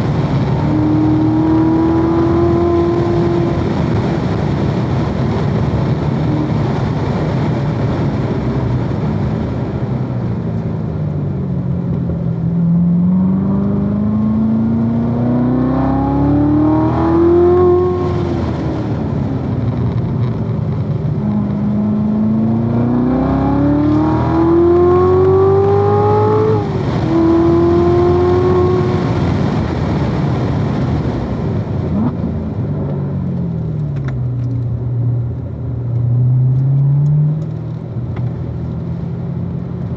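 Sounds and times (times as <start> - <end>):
car engine at full throttle: 0.0 - 39.9.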